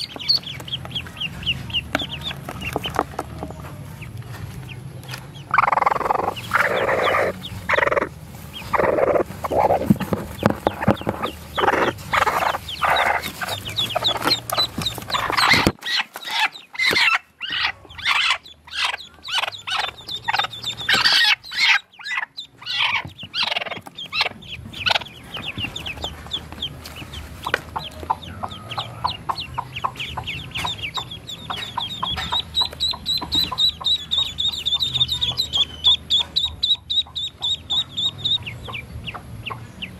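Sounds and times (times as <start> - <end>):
ducklings peeping: 0.0 - 39.9
hen clucking: 0.0 - 39.9.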